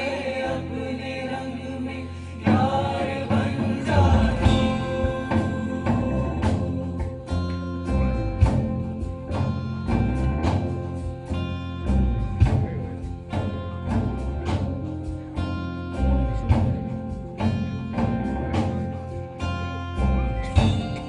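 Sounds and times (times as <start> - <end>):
live band playing: 2.1 - 21.0
drum strikes: 2.5 - 19.2, 20.2 - 21.0.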